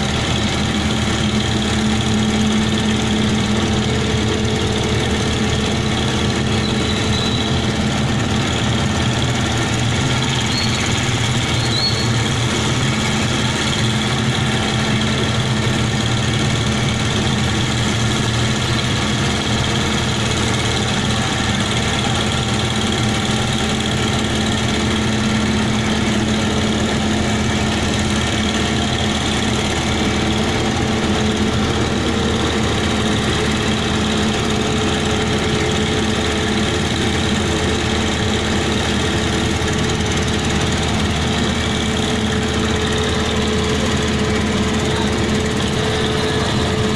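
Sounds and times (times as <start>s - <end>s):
heavy engine running: 0.0s - 46.9s.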